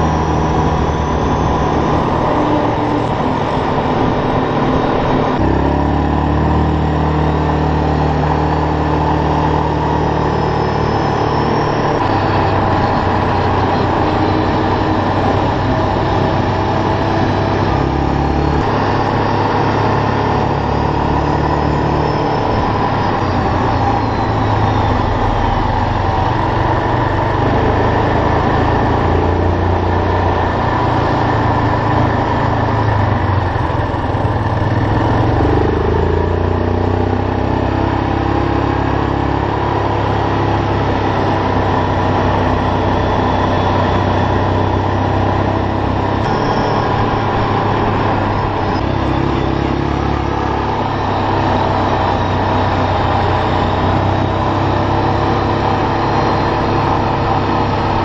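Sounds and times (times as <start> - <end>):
steady rushing noise: 0.0 - 6.4, 8.9 - 36.5, 39.8 - 58.0
atv engine running: 0.0 - 58.0.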